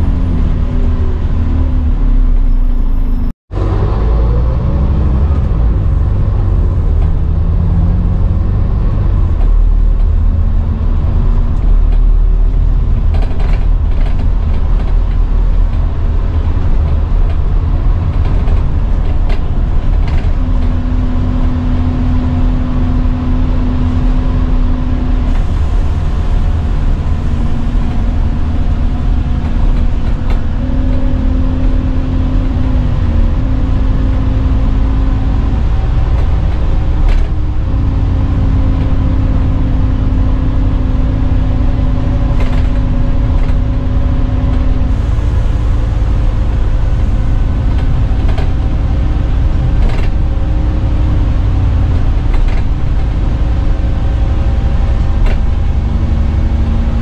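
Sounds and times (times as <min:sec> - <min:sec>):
bus engine rumble: 0:00.0 - 0:57.0
bus body rattles: 0:05.1 - 0:57.0.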